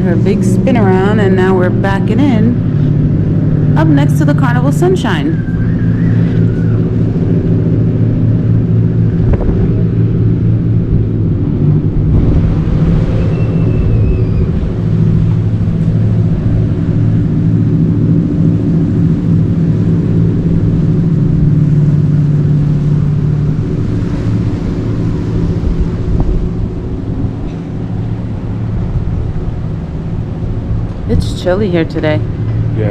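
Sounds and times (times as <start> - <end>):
low ship machinery drone: 0.0 - 32.9.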